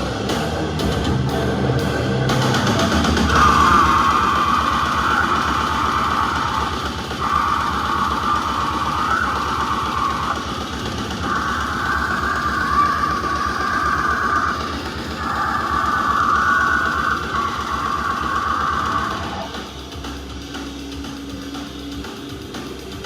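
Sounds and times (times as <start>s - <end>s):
distorted guitar: 0.0s - 23.0s
fast drumming: 0.0s - 23.0s.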